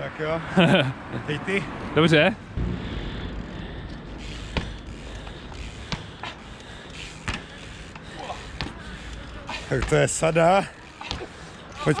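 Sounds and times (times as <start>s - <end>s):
street background rumble: 0.0s - 12.0s.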